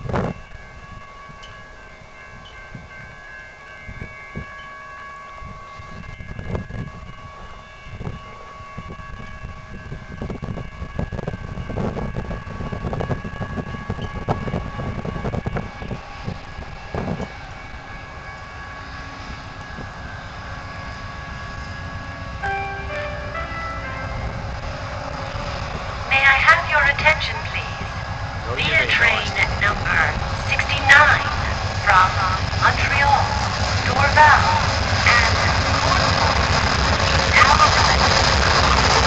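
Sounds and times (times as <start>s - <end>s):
train low rumble: 0.0s - 39.0s.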